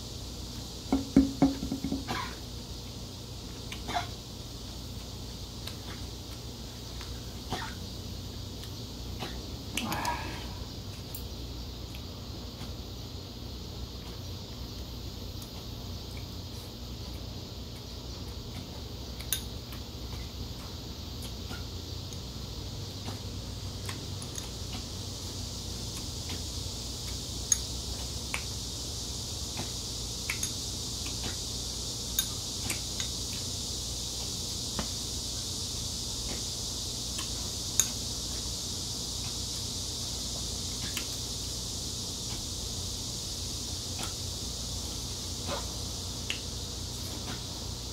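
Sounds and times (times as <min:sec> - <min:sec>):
steady background hiss: 0:00.0 - 0:47.9.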